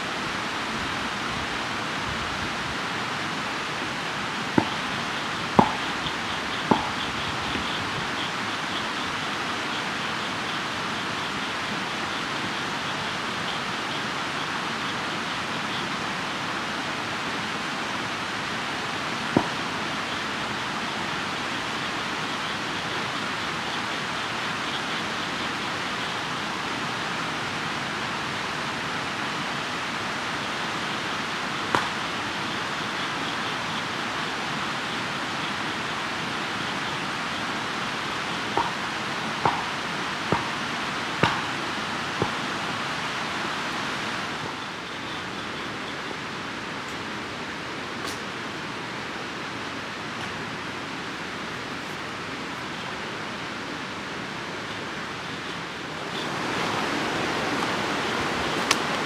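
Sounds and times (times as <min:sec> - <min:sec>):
campfire hissing: 0:00.0 - 0:59.0.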